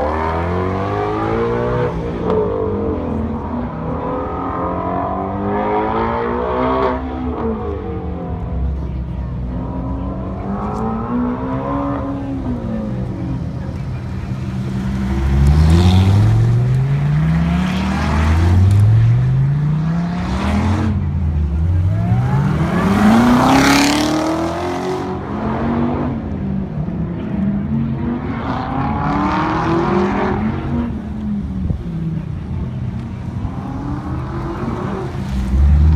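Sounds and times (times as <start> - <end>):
sports car engine accelerating: 0.0 - 35.9.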